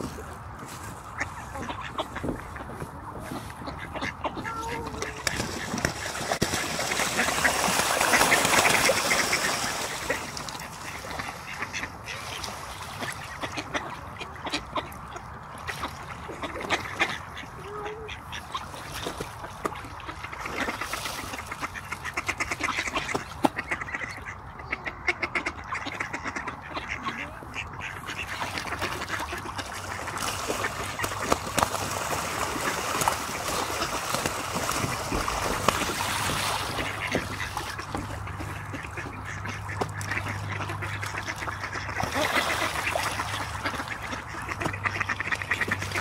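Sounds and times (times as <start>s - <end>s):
ducks quacking: 0.0s - 46.0s
water splashing: 0.0s - 46.0s.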